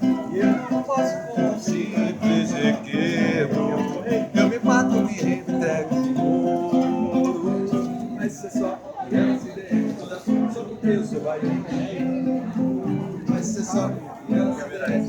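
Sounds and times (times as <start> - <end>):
acoustic guitar playing: 0.0 - 15.0
person singing: 0.0 - 15.0.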